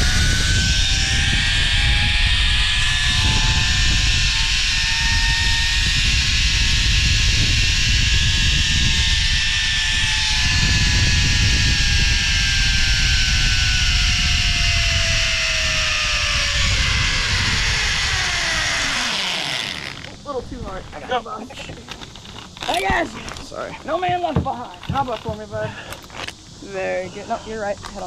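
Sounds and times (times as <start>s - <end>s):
zip-line pulleys whining: 0.0s - 23.4s
wind on microphone: 0.0s - 25.8s.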